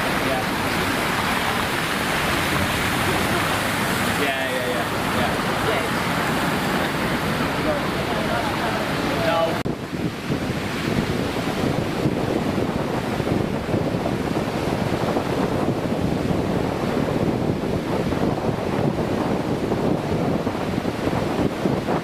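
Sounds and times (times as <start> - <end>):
water rushing over a weir: 0.0 - 22.0.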